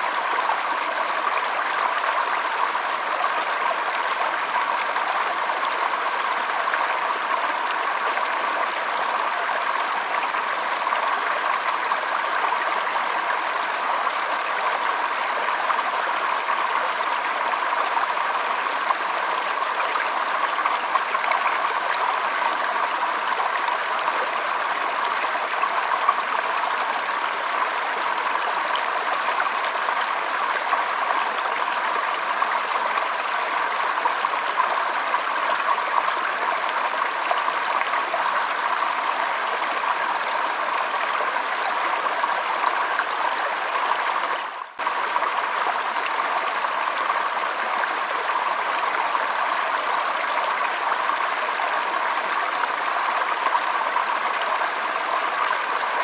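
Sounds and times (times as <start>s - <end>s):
stream trickling over stones: 0.1s - 56.0s.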